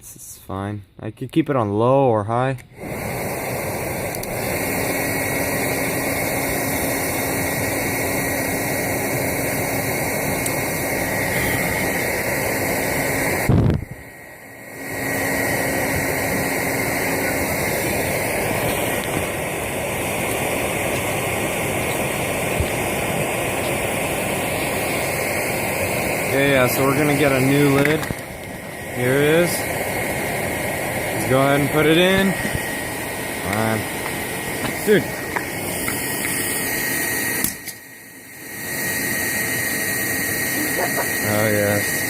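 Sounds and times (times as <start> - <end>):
furnace fire roaring: 1.9 - 42.0
electric fan whirring: 2.4 - 42.0.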